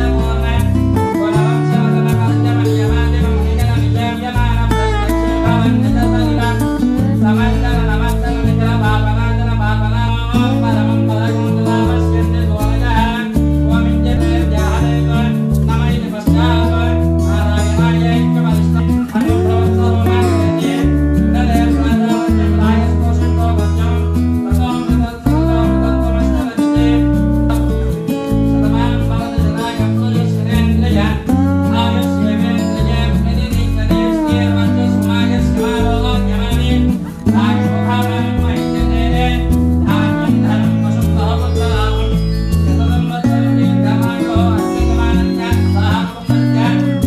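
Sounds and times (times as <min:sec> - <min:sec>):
song with plucked strings: 0:00.0 - 0:47.0.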